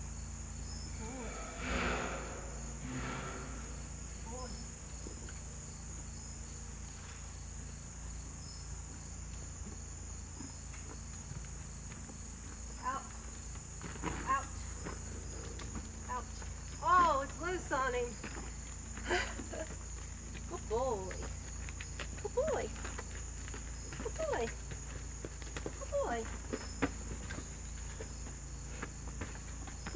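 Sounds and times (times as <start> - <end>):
insects chirping: 0.0 - 29.9.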